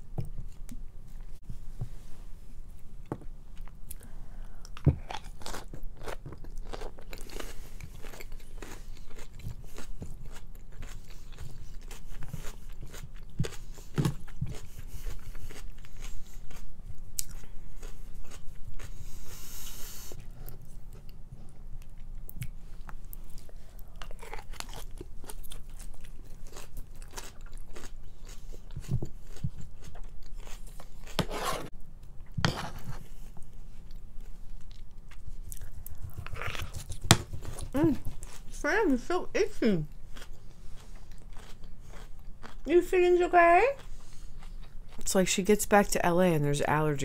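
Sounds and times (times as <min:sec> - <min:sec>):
chewing and crunching food: 0:02.7 - 0:39.1, 0:39.8 - 0:46.2.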